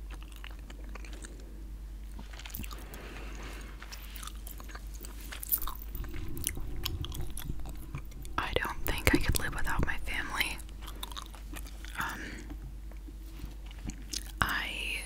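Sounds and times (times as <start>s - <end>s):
gum chewing smacks: 0.0s - 3.0s, 3.8s - 10.0s, 10.6s - 14.4s.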